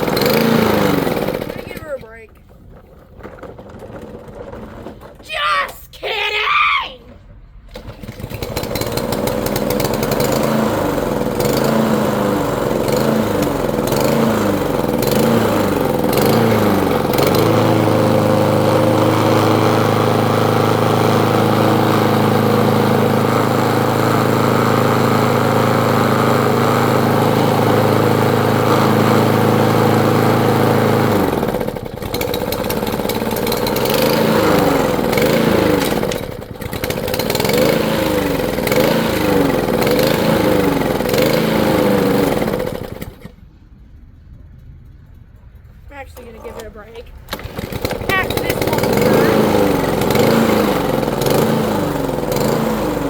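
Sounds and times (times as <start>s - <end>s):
lawn mower engine running: 0.0s - 5.3s, 7.5s - 43.5s, 44.8s - 53.0s.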